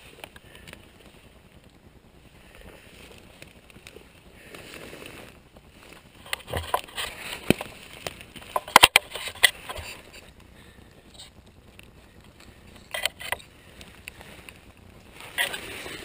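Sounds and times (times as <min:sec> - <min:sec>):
twigs crackling and snapping: 0:00.0 - 0:16.0.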